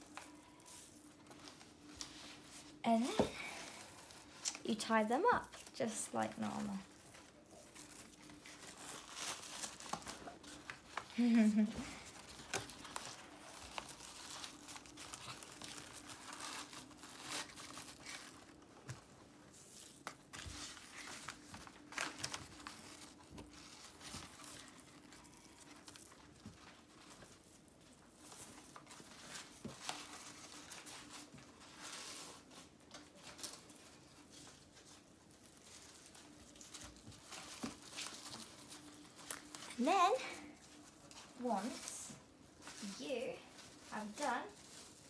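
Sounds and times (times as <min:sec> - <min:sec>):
newspaper rustling and crinkling: 0:00.0 - 0:45.0.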